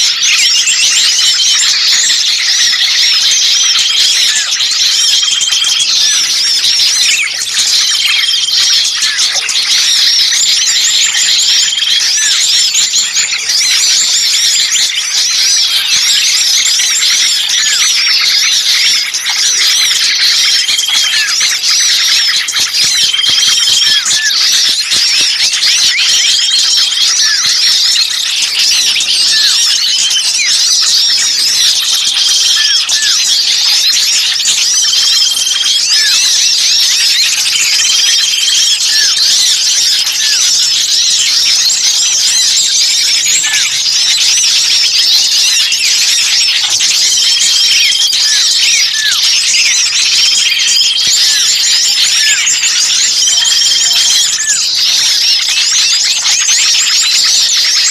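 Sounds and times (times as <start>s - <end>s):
songbirds chirping in distress: 0.0s - 57.9s.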